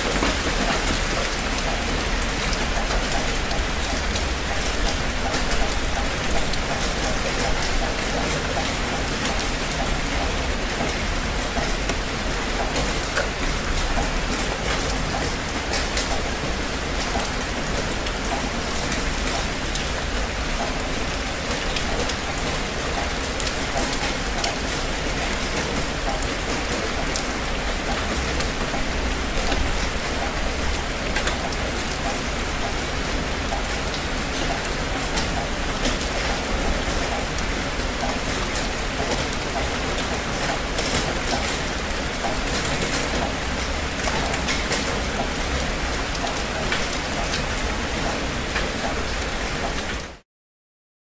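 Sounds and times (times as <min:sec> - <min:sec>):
heavy rain: 0:00.0 - 0:50.2
raindrops striking surface: 0:00.0 - 0:50.2.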